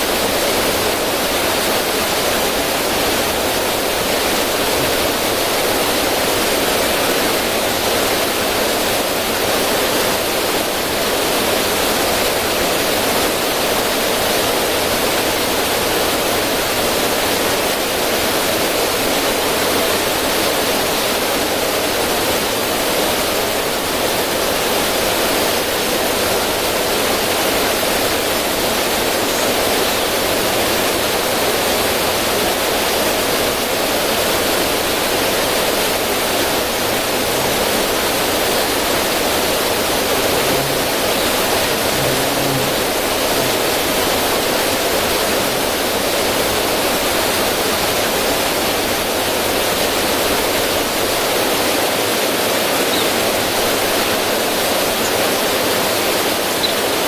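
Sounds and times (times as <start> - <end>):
river water splashing over rocks: 0.0 - 57.0.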